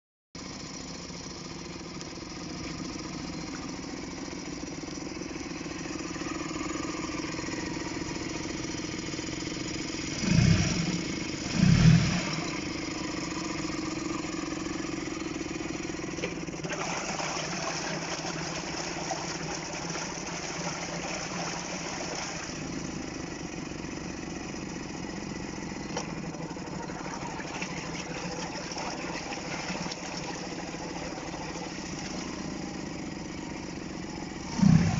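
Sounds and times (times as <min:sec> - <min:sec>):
outboard motor running: 0:00.4 - 0:34.9.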